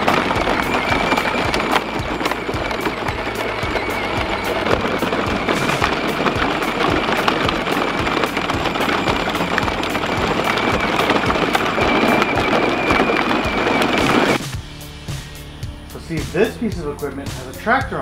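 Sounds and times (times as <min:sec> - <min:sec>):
wheels crunching over rough ground: 0:00.0 - 0:14.8, 0:15.9 - 0:18.0
high motor whine: 0:00.0 - 0:15.9.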